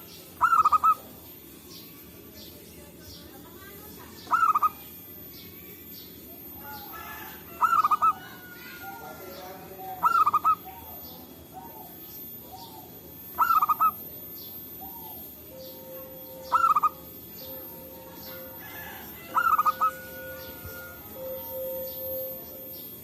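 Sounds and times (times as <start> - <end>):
dove cooing: 0.0 - 1.5, 4.1 - 5.1, 6.3 - 23.0.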